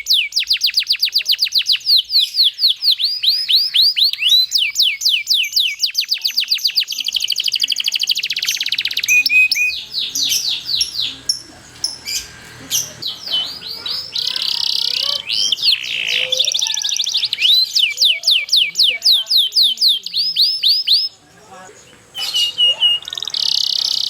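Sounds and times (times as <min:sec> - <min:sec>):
canary singing chirps and trills: 0:00.0 - 0:24.0.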